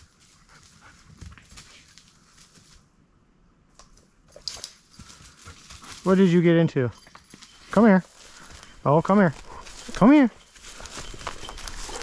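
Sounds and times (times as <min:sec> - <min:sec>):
rustling through brush: 0:00.0 - 0:02.9, 0:04.4 - 0:12.0.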